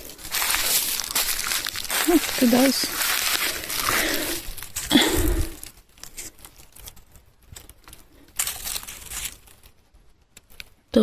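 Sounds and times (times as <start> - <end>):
dry leaves rustling and crackling: 0.0 - 10.1.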